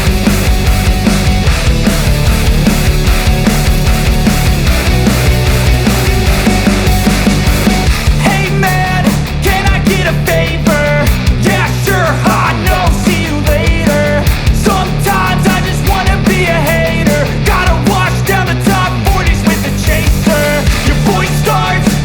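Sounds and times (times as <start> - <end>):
bass part: 0.0 - 22.0
steady drum beat: 0.0 - 22.0.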